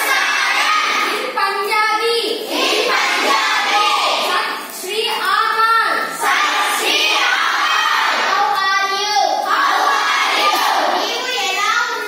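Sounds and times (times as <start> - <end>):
children singing in unison: 0.0 - 1.4, 2.4 - 4.8, 6.0 - 12.0.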